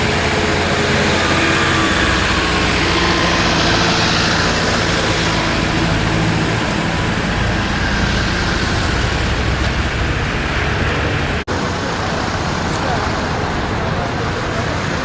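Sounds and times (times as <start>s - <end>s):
road vehicle rush: 0.0s - 15.0s.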